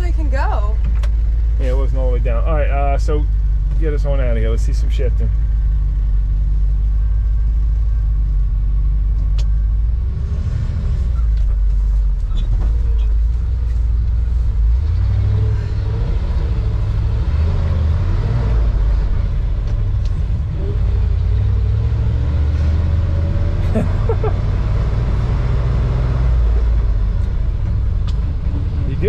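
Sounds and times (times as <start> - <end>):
truck engine accelerating: 0.0 - 29.0.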